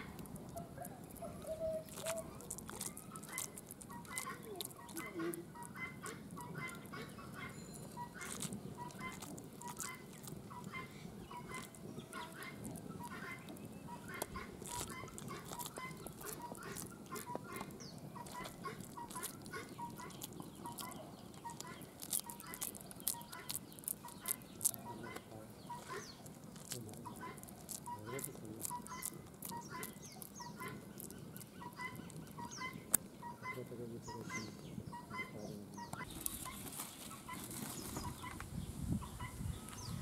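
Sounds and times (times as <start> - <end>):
birds clucking calls: 0.0 - 40.0.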